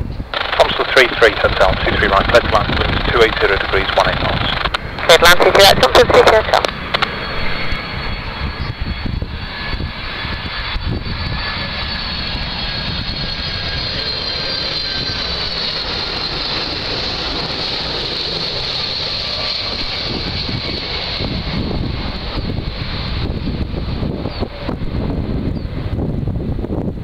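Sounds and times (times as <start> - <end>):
jet engine rumble with fan whine: 0.0 - 27.0.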